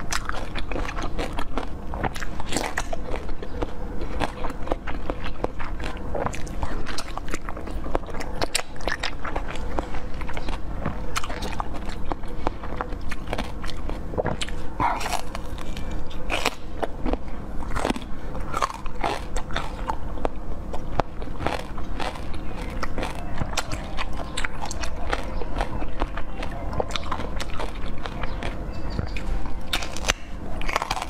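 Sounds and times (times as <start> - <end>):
biting and chewing jelly: 0.0 - 31.0.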